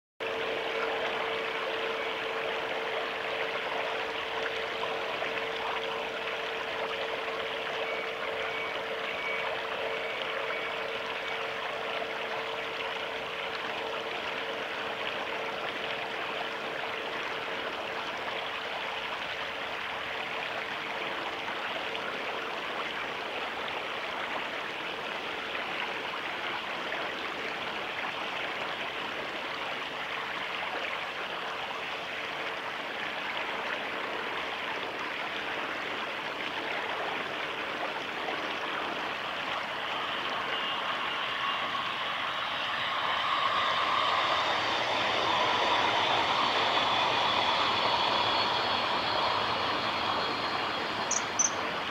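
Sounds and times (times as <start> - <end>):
stream water running: 0.2 - 51.9.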